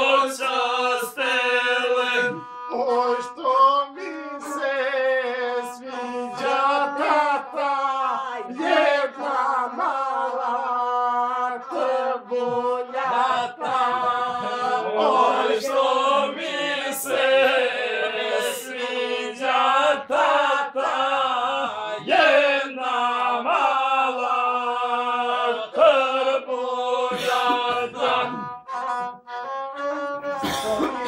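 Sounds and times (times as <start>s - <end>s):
bowed single-string fiddle: 0.0s - 20.5s, 25.5s - 31.0s.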